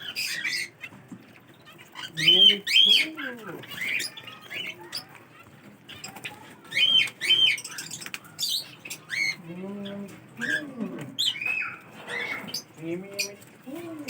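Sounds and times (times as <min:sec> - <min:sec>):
parrots squawking and chirping: 0:00.0 - 0:14.0.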